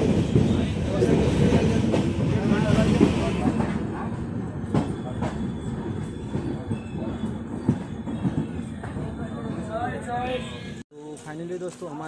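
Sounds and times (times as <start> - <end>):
train wheel rumble: 0.0 - 10.2.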